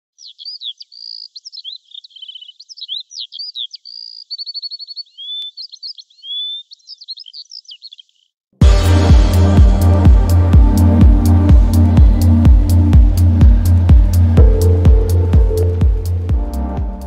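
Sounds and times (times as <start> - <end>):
songbird singing: 0.0 - 8.4, 10.0 - 17.0.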